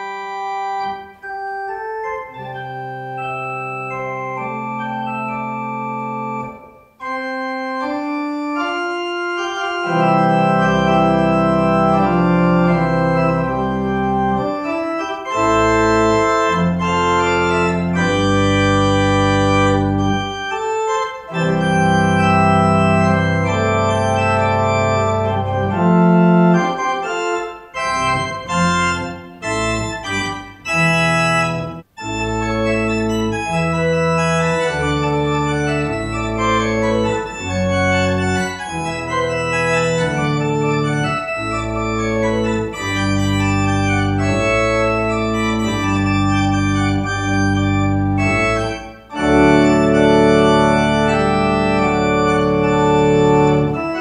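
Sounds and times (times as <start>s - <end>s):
organ chords: 0.0s - 54.0s
deep organ bass line: 0.1s - 54.0s.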